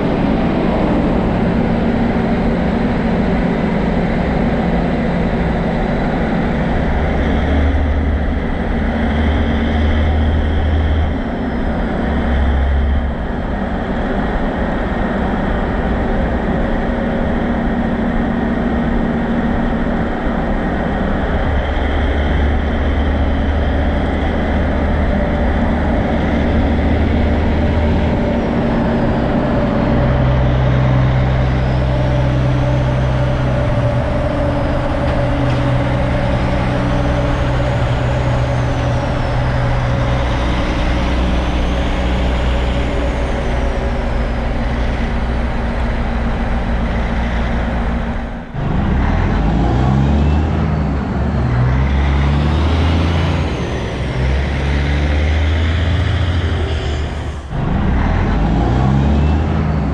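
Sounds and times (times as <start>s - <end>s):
heavy truck engines passing: 0.0s - 59.9s.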